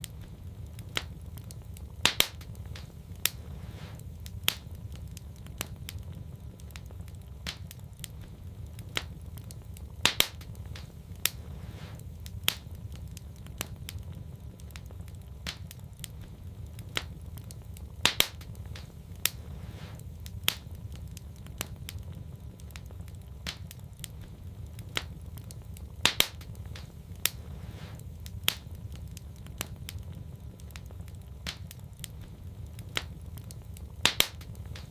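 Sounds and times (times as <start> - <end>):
low rumble of flame: 0.0 - 34.9
wood fire crackling: 0.0 - 34.9.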